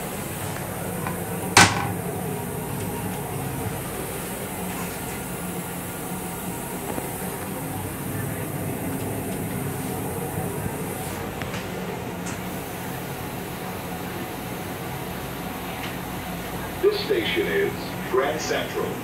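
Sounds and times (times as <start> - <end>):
railcar rumble and hum: 0.0 - 19.0
toilet flushing: 0.0 - 19.0.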